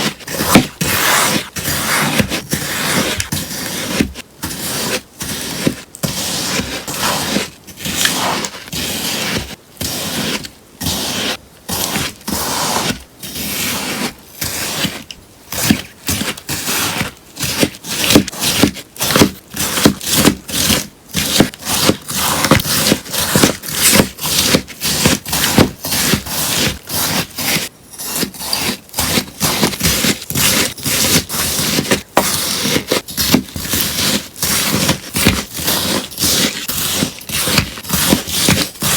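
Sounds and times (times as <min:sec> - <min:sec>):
scissors snipping through sponge: 0:00.0 - 0:38.9.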